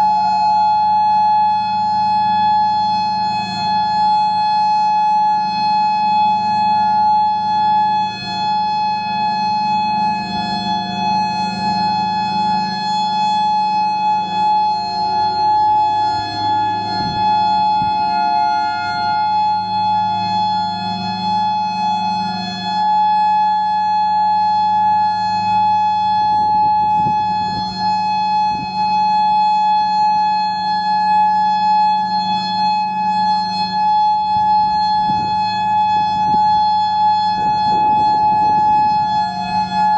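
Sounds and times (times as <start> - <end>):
second siren lower pitch: 0.0 - 39.9
siren holding high steady tone: 0.0 - 39.9.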